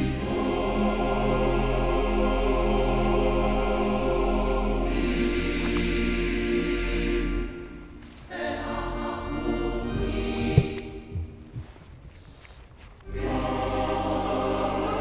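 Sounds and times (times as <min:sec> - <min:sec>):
sustained choir-like chords: 0:00.0 - 0:11.4, 0:13.1 - 0:15.0.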